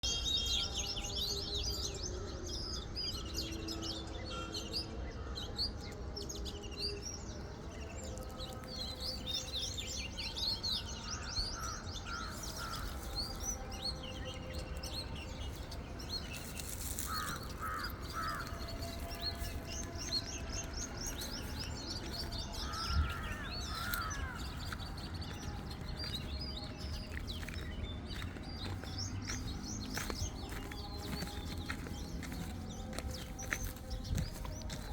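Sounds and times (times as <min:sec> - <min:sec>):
small birds chirping: 0:05.8 - 0:34.9.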